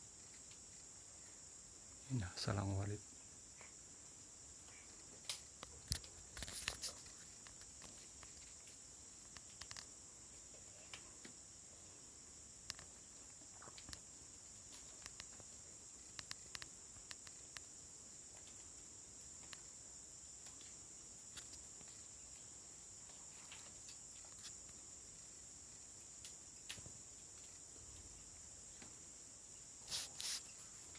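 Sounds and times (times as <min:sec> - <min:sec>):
insect chirring: 0:00.0 - 0:30.9.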